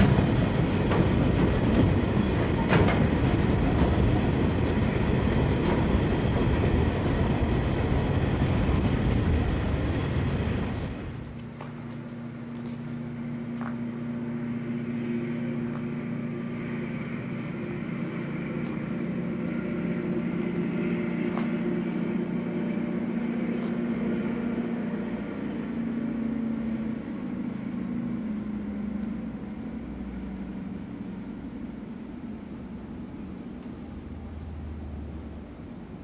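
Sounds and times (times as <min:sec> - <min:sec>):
diesel locomotive engine hum: 0:00.0 - 0:36.0.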